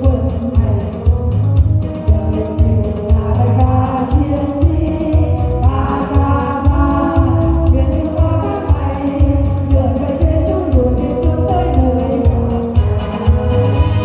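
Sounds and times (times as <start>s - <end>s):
instrumental accompaniment with low beat: 0.0s - 14.0s
women singing a marching song: 2.1s - 13.8s.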